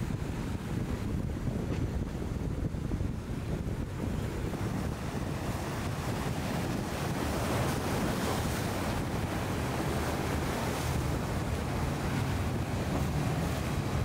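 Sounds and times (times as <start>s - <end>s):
low boat engine drone: 0.0s - 14.0s
rush of hull wash and surf: 0.0s - 14.0s
wind buffeting the microphone: 0.0s - 14.0s.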